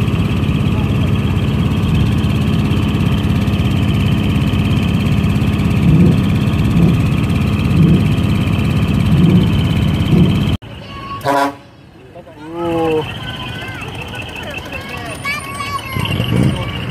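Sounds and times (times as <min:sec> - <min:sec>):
truck engine idling: 0:00.0 - 0:16.9.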